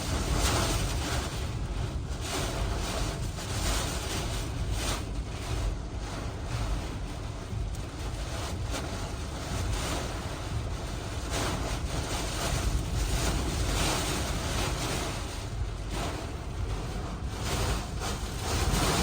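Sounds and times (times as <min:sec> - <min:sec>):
strong wind gusts: 0:00.0 - 0:19.0
wind buffeting microphone: 0:00.0 - 0:19.0.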